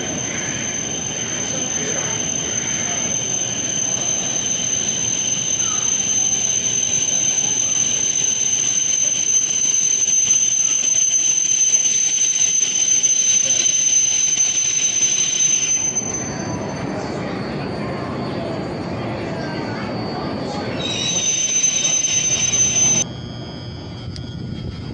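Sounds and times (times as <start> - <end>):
high-pitched squeal: 0.0 - 24.9.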